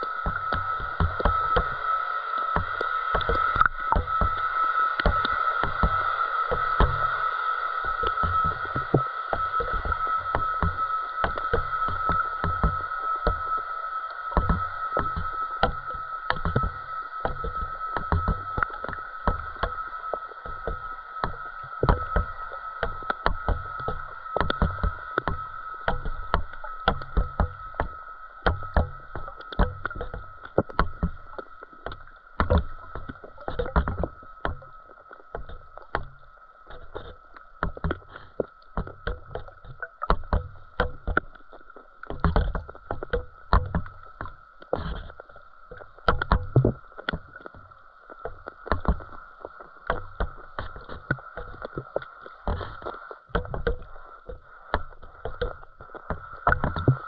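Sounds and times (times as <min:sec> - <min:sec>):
low underwater thumps: 0:00.0 - 0:07.2, 0:07.8 - 0:13.6, 0:14.4 - 0:49.2, 0:49.8 - 0:57.0
steady high hum: 0:00.0 - 0:57.0
underwater clicks and knocks: 0:00.0 - 0:57.0.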